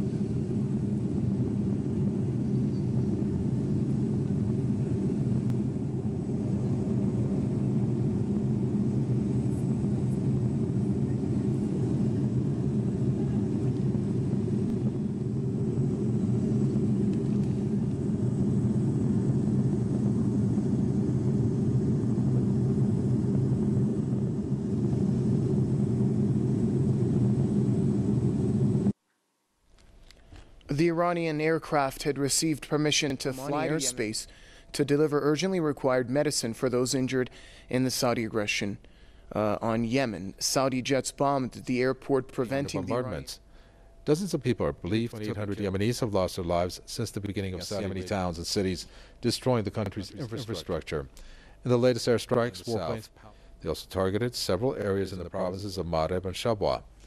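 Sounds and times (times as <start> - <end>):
airliner cabin drone: 0.0 - 29.0, 32.5 - 35.0, 41.5 - 55.9.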